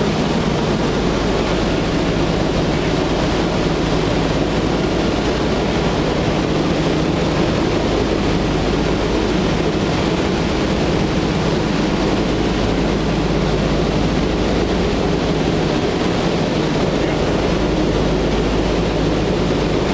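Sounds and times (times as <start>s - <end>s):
radial engines droning: 0.0s - 19.9s.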